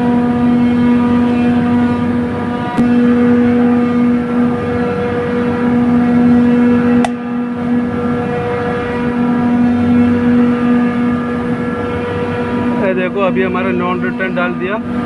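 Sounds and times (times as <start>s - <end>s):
compressor plant humming: 0.0s - 15.0s.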